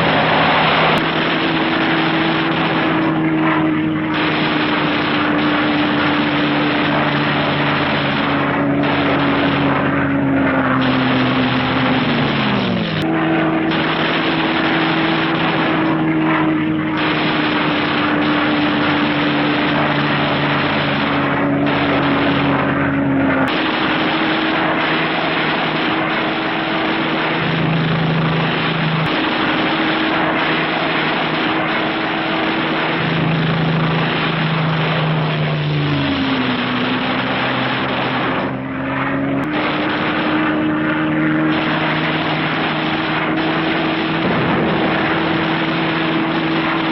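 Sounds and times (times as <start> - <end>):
propeller aircraft engines droning: 0.0 - 46.9.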